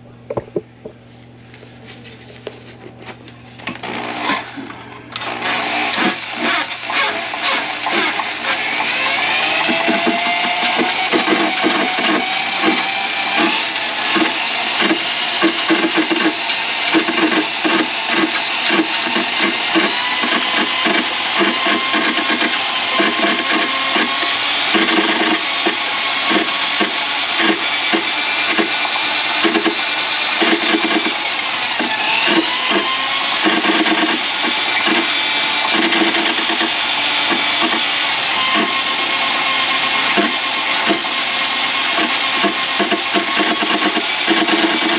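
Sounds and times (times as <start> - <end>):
drain cleaning machine motor whine: 3.5 - 44.9
spinning cable rattling in drain: 5.4 - 44.9.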